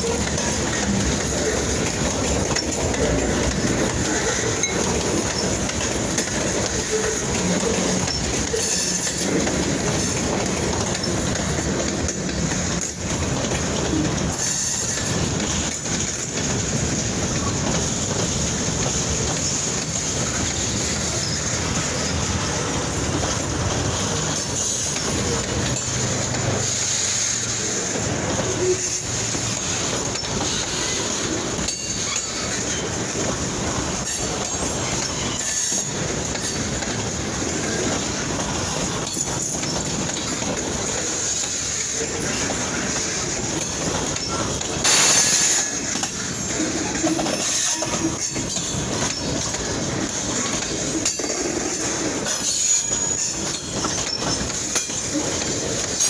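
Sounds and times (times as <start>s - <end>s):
freight train wheels rumbling: 0.0s - 56.0s
wheel clacks: 0.0s - 56.0s.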